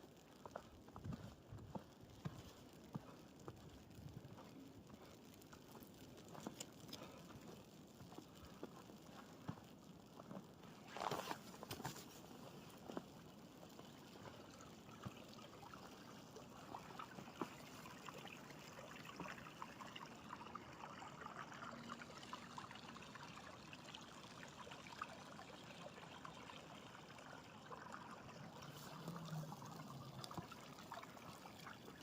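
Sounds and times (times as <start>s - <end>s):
faint trickling water: 0.0s - 32.0s.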